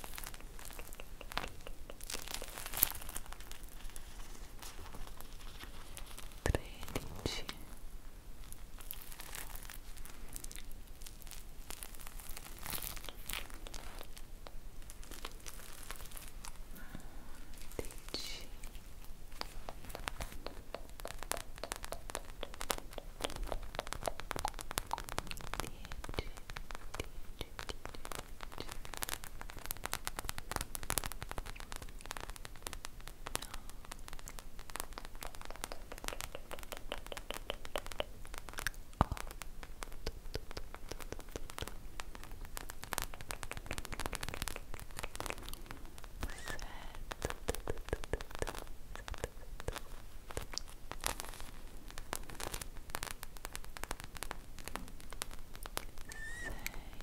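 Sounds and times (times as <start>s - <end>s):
foam squishy toy crackling: 0.0s - 7.8s, 8.4s - 16.8s, 17.4s - 57.0s.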